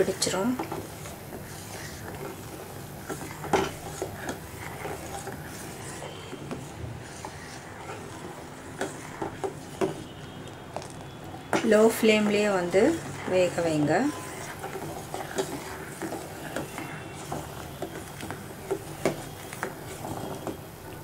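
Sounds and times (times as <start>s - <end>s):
metal spoon scraping saucepan: 0.0s - 10.0s, 11.6s - 20.8s.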